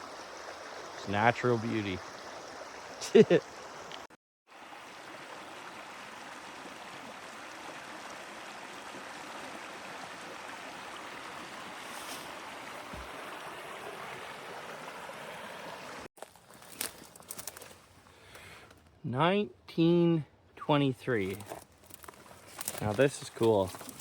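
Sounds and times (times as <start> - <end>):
flowing stream: 0.0 - 19.0, 19.8 - 24.0.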